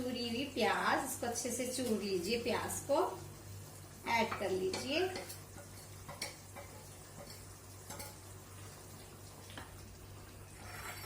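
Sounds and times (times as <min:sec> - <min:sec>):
mince and onions sizzling: 0:00.0 - 0:11.0.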